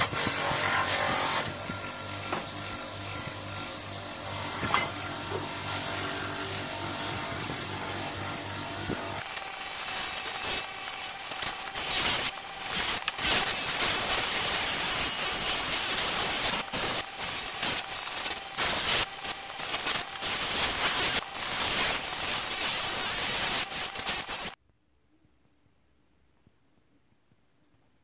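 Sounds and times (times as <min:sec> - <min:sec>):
bench grinder motor humming: 0:00.0 - 0:24.6.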